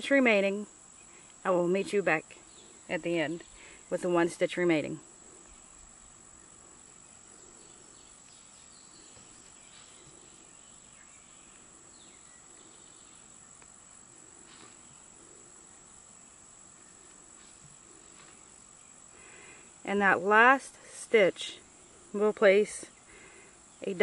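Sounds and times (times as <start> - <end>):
faint background hiss: 0.0 - 24.0.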